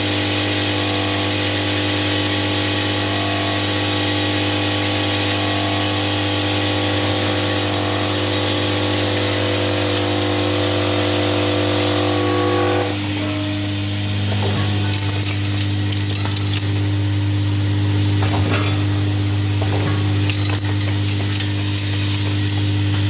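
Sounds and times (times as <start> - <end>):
packing machine humming: 0.0 - 23.0
steady machine tones: 2.8 - 23.0.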